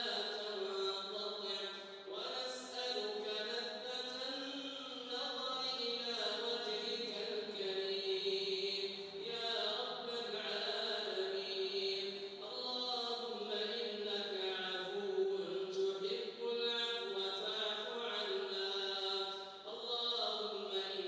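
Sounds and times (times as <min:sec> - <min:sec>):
person chanting melodic recitation: 0:00.0 - 0:21.0.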